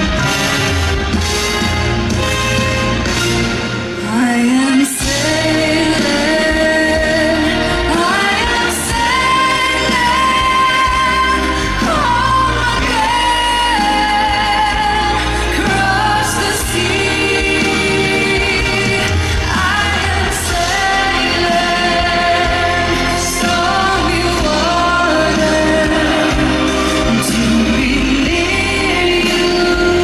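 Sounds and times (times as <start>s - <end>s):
band accompaniment: 0.0s - 30.0s
woman singing pop song: 3.9s - 30.0s.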